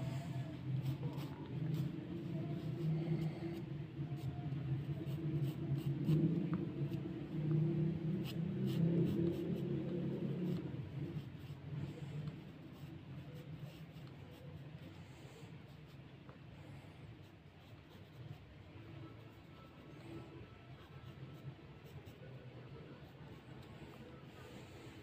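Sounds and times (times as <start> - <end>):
pencil scratching on paper: 0.0 - 16.1, 17.2 - 24.8.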